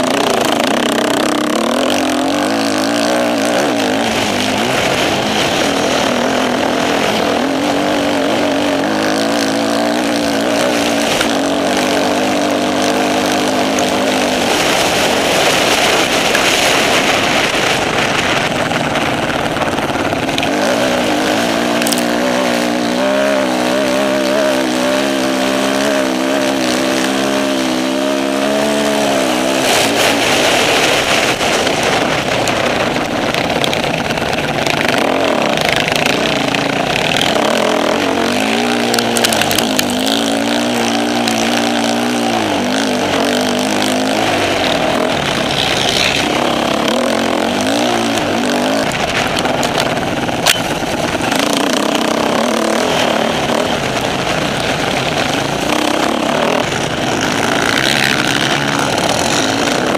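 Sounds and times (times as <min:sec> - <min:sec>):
heavy rushing noise: 0:00.0 - 0:59.9
off-road motorcycle engine: 0:00.0 - 0:59.9.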